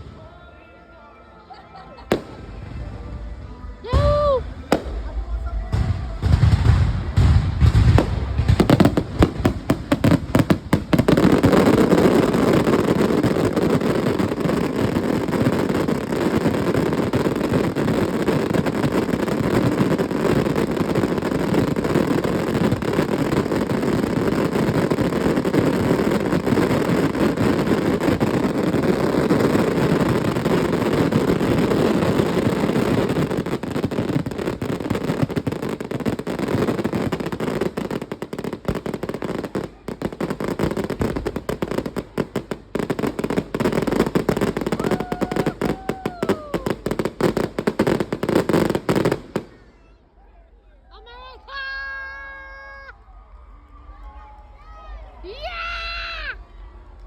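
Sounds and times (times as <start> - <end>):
fireworks bangs: 2.0 - 49.8
crackling firework bursts: 2.1 - 49.8.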